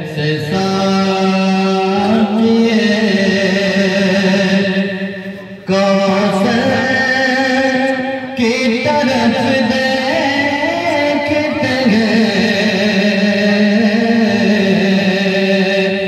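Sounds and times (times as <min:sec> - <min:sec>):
man chanting into microphone: 0:00.0 - 0:16.0.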